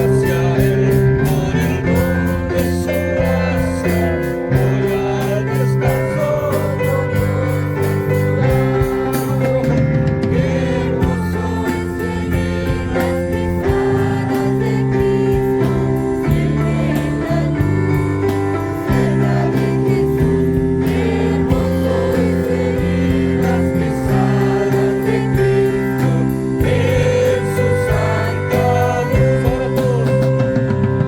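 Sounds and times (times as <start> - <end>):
song with singing and beat: 0.0 - 31.0.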